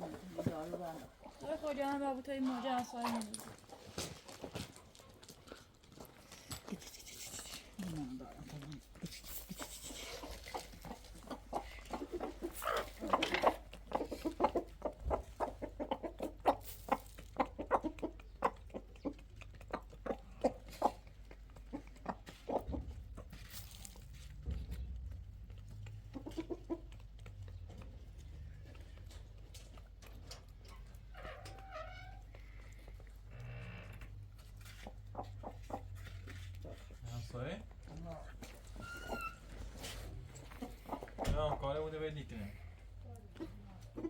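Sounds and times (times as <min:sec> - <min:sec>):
chickens clucking: 0:00.0 - 0:05.5, 0:08.8 - 0:23.8, 0:24.4 - 0:33.4, 0:34.0 - 0:44.0.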